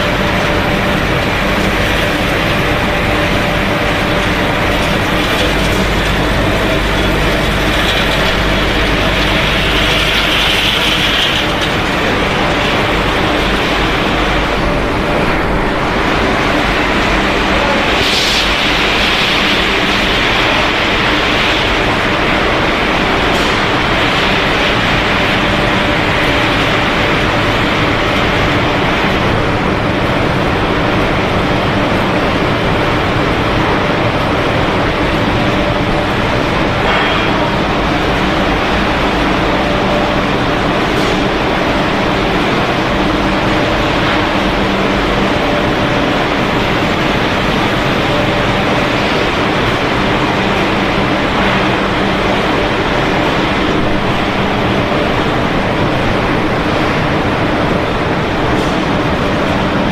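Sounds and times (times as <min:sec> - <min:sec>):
factory machinery running: 0:00.0 - 0:59.9.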